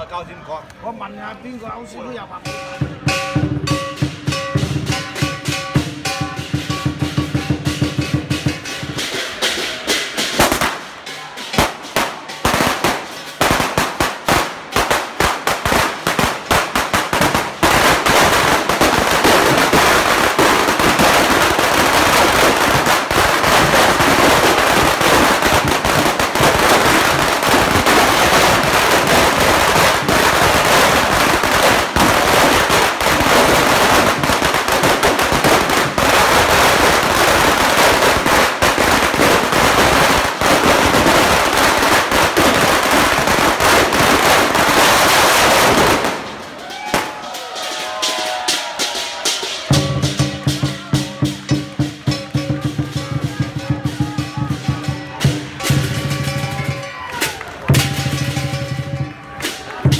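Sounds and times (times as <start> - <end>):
firecrackers banging: 2.1 - 59.9
rhythmic music: 2.2 - 44.0, 46.1 - 59.9.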